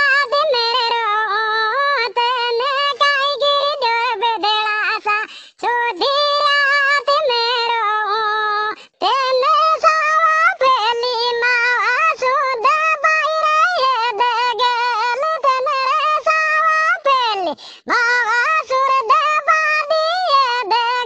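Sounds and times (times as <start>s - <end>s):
high cartoon voice singing: 0.0s - 21.0s.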